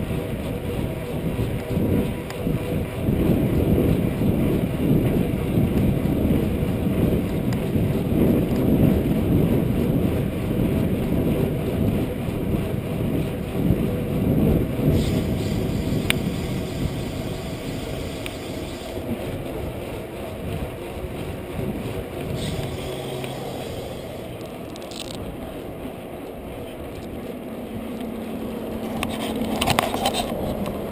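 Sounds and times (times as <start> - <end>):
bike rolling on concrete: 0.0 - 30.9
wind buffeting microphone: 0.0 - 30.9.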